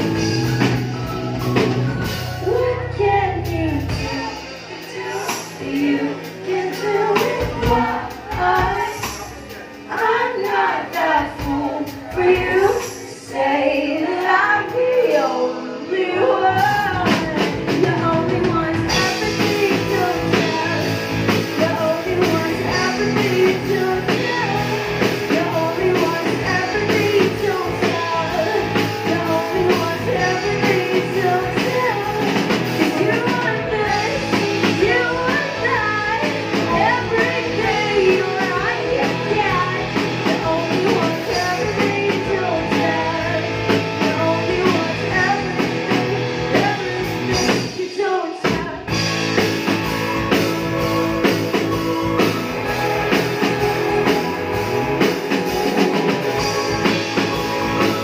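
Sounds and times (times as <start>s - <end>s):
bass guitar: 0.0s - 47.8s, 48.4s - 58.0s
live rock band playing: 0.0s - 58.0s
woman singing: 0.0s - 58.0s.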